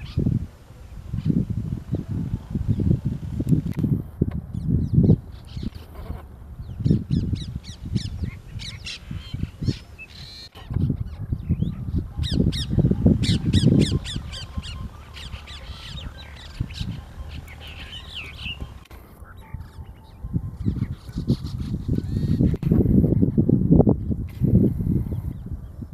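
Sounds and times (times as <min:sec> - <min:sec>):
starlings chattering calls: 0:00.0 - 0:03.8, 0:04.5 - 0:23.3.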